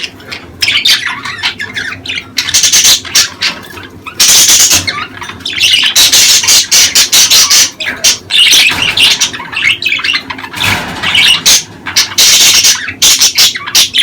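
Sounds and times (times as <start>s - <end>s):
budgerigars chattering and squawking: 0.0s - 14.0s.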